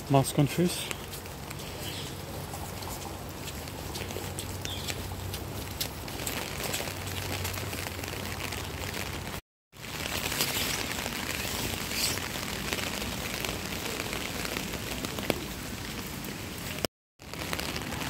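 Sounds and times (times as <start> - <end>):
rain on wet pavement: 0.0 - 18.0.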